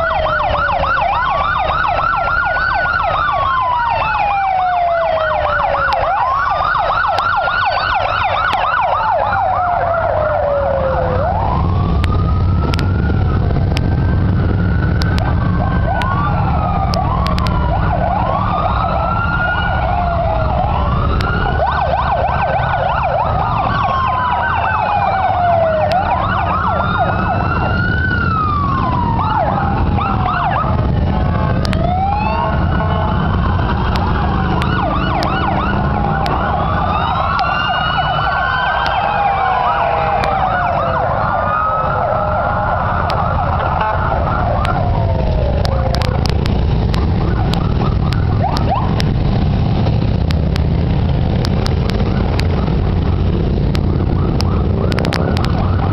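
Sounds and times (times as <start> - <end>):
motorcycle engines rumbling: 0.0 - 55.9
sirens wailing and yelping: 0.0 - 55.9.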